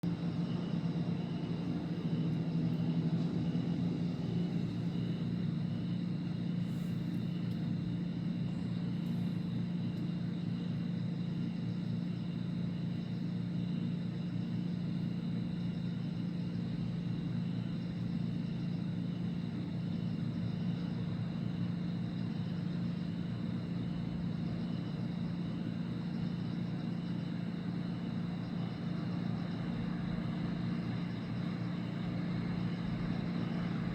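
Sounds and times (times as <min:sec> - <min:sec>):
low mechanical hum: 0:00.0 - 0:33.9.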